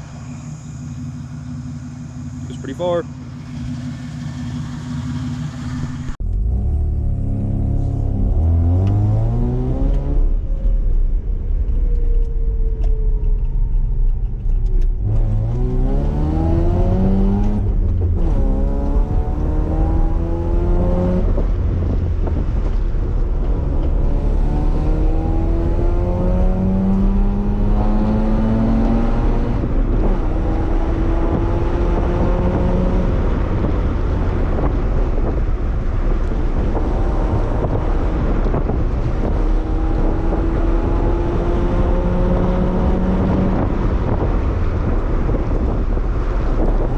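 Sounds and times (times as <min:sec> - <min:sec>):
low road rumble: 0:00.0 - 0:46.9
truck engine accelerating: 0:00.0 - 0:46.9.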